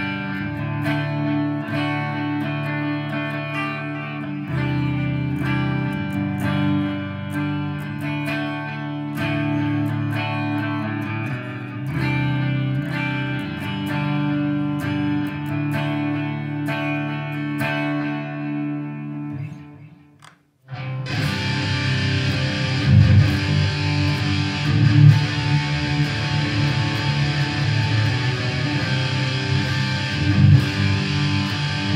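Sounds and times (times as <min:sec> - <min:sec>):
distorted electric guitar: 0:00.0 - 0:31.9.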